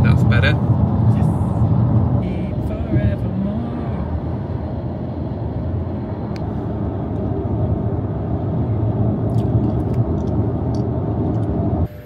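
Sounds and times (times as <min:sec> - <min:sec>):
wind noise: 0:00.0 - 0:11.9
road and tyre rumble: 0:00.0 - 0:12.0.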